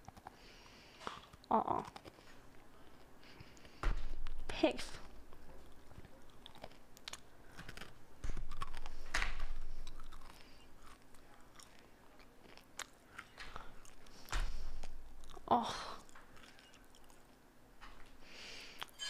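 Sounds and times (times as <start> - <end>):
person chewing crunchy treat: 0.0 - 17.4, 18.2 - 19.0.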